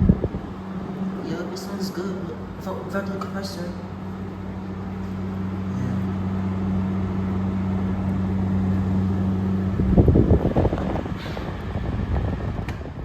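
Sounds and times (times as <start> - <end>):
air conditioner fan hum: 0.0 - 13.0
rumbling and clattering: 0.0 - 13.0.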